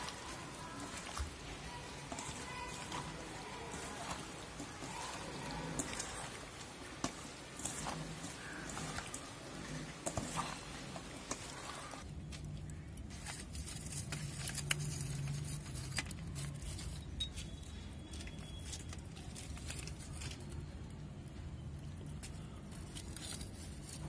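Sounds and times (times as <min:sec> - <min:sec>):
hands squishing wet meat: 0:00.0 - 0:20.6.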